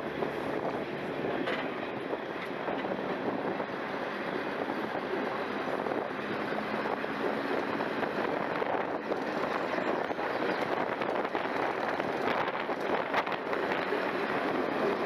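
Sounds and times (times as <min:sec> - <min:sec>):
diesel railcar running: 0:00.0 - 0:15.0.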